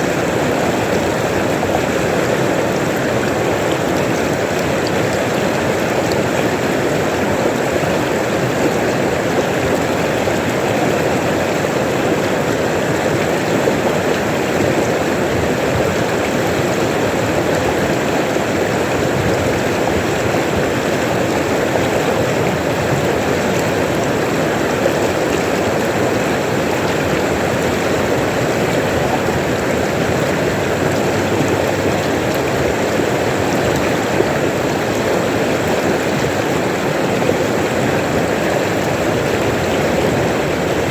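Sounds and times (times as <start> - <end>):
river water running: 0.0 - 40.9.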